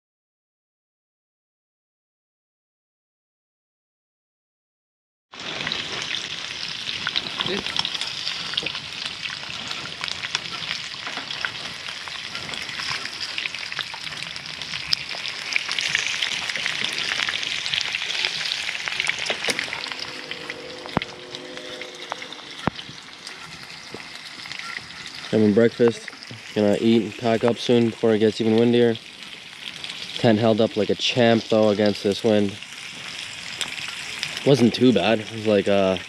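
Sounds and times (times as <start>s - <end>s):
bacon sizzling in a skillet: 5.4s - 36.0s.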